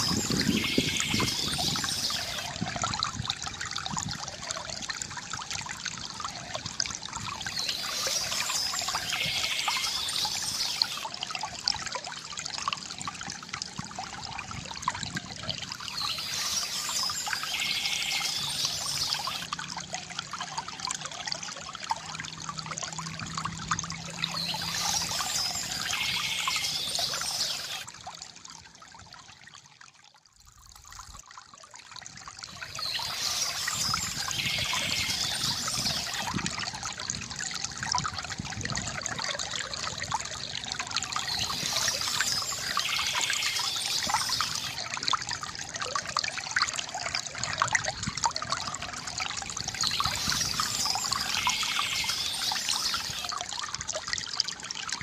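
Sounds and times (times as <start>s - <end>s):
water pouring from fountain spout: 0.0s - 55.0s.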